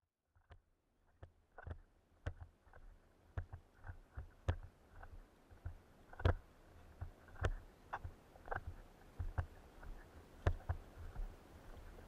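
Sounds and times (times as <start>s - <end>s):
camera handling knocks and rubbing: 1.6s - 11.9s.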